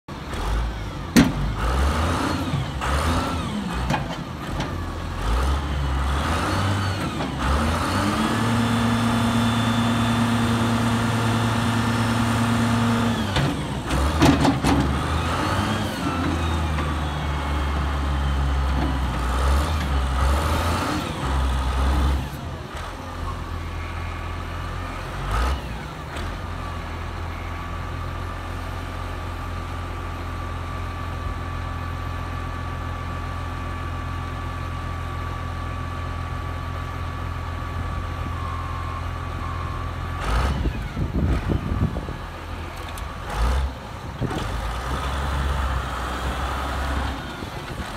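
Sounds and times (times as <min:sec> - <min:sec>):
diesel loader engine running: 0:00.1 - 0:47.9.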